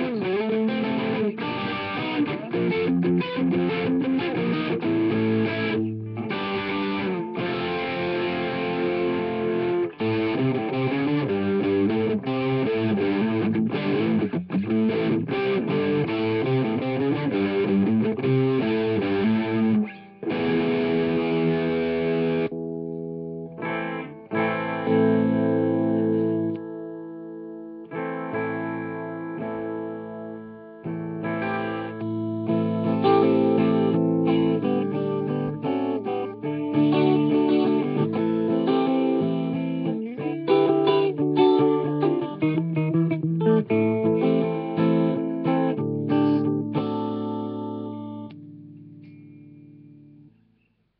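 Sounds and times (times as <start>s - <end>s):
distorted electric guitar: 0.0s - 50.9s.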